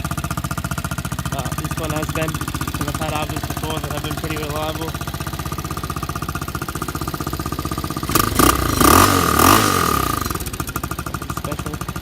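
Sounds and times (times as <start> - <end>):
muffled engine idling and revving: 0.0 - 12.0.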